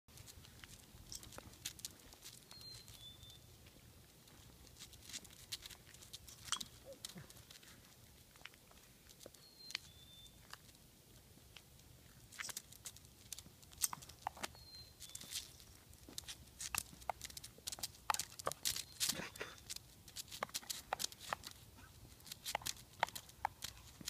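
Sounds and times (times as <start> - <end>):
puppy paws on asphalt: 0.1 - 24.0.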